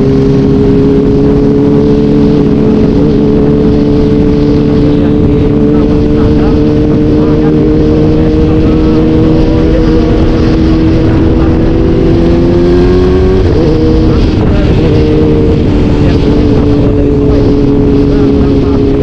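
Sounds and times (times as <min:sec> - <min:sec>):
vehicle engine running hard: 0:00.0 - 0:19.0.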